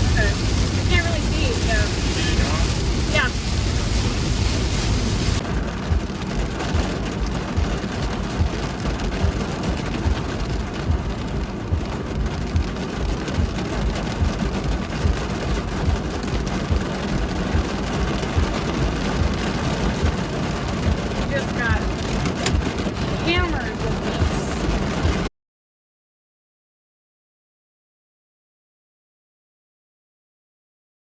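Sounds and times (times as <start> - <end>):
heavy rain on car roof: 0.0 - 25.3.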